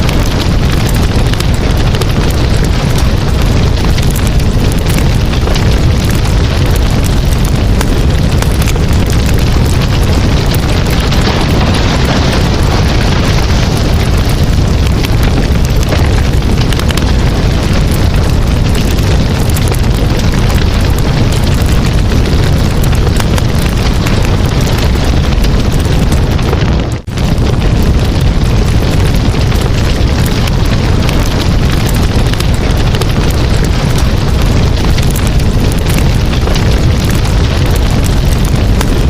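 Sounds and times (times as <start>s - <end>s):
campfire crackling: 0.0s - 39.0s
low fire rumble: 0.0s - 39.0s.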